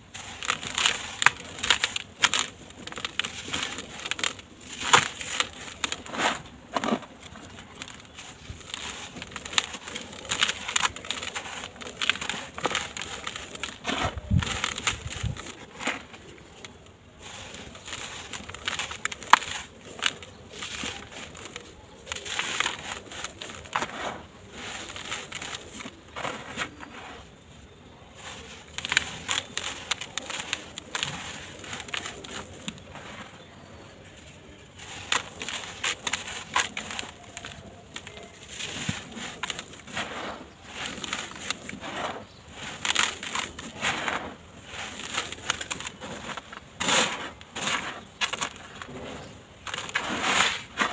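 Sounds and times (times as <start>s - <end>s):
cement blocks crumbling: 0.0s - 50.9s.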